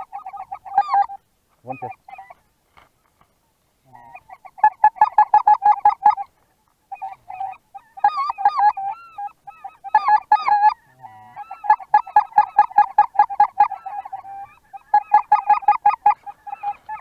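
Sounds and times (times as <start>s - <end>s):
goose honking: 0.0s - 2.4s, 3.8s - 6.3s, 6.9s - 17.0s.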